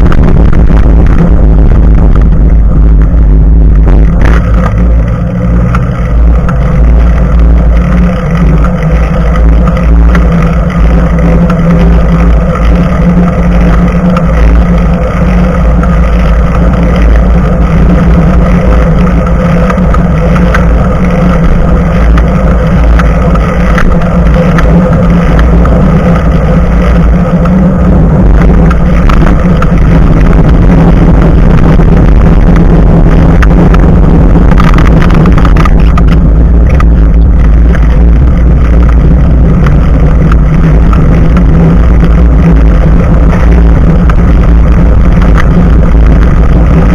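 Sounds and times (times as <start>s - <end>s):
bicycle tyre on road: 0.0s - 46.9s
wind buffeting microphone: 0.0s - 46.9s.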